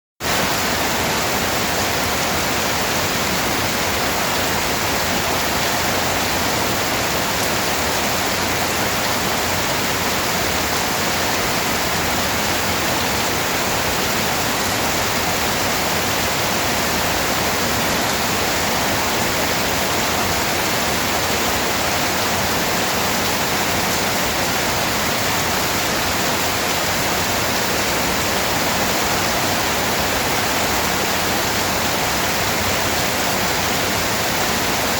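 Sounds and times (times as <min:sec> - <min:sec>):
heavy rain: 0:00.2 - 0:34.9.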